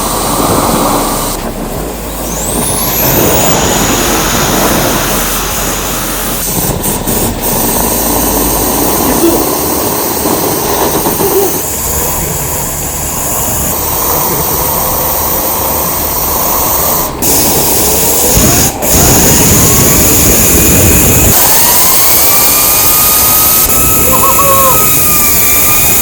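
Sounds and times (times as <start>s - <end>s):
fan whine rising in pitch: 0.0s - 26.0s
model jet engine roar: 0.0s - 26.0s.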